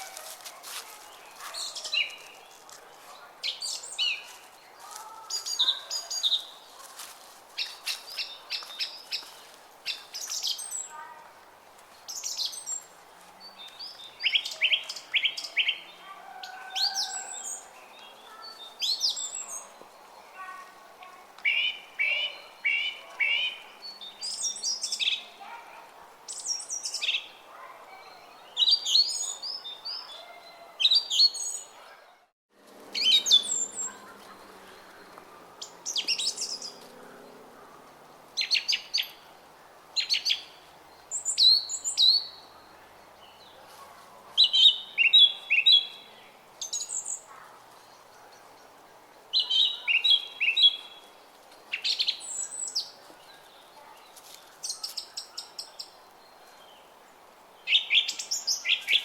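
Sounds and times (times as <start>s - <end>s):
songbirds chirping and singing: 0.0s - 11.1s, 11.9s - 20.6s, 21.4s - 32.3s, 32.9s - 59.0s.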